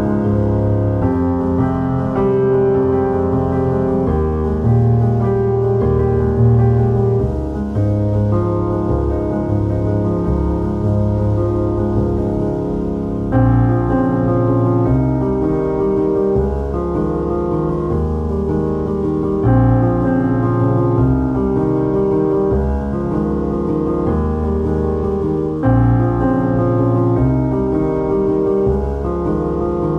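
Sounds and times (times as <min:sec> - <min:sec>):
piano chords: 0:00.0 - 0:29.9.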